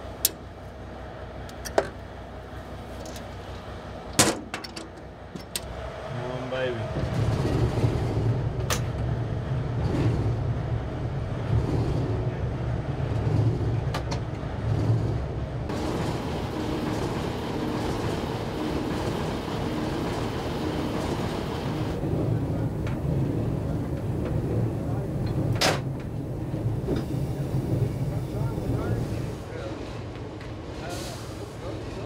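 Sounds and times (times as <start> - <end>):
locomotive cab rumbling: 0.0 - 32.0.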